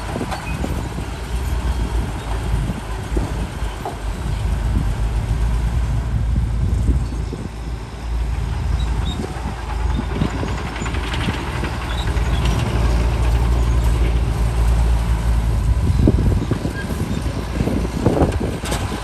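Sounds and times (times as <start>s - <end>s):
heavy machinery diesel engine rumbling: 0.0s - 19.0s.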